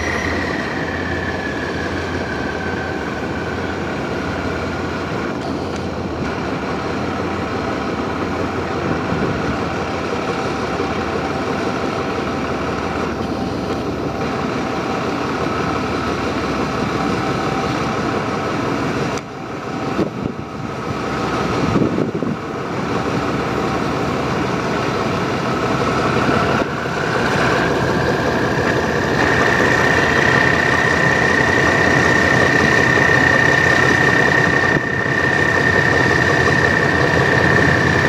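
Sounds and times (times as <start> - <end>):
rising whine: 0.0 - 38.0
train engine rumble: 0.0 - 38.0.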